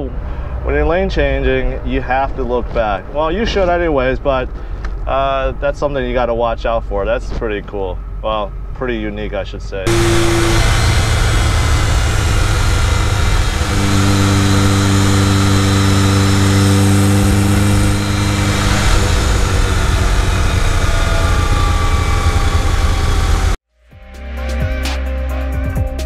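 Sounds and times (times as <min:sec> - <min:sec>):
wind and road noise: 0:00.0 - 0:09.2, 0:09.9 - 0:23.6
car engine droning: 0:00.0 - 0:23.6.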